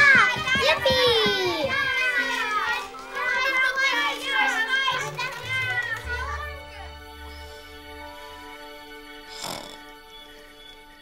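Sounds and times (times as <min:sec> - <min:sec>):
soft music with long held notes: 0:00.4 - 0:11.0.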